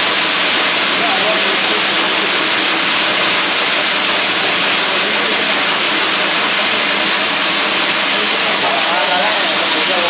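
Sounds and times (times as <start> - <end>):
peanuts rattling through machine: 0.0 - 10.0.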